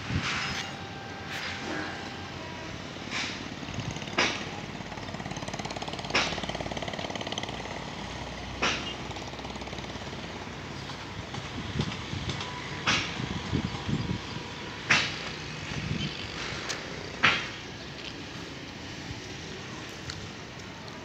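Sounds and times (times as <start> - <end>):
road traffic: 0.0 - 21.0
truck engines running: 0.0 - 21.0.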